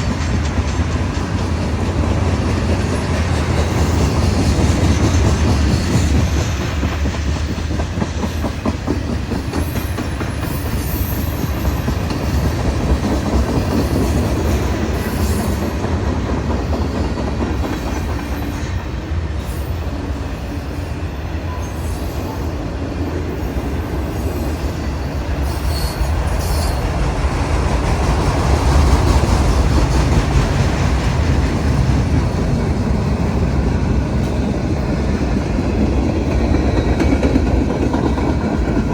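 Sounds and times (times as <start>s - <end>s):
freight train wheels rumbling on rails: 0.0s - 38.9s
rapid clatter of train cars: 0.0s - 38.9s.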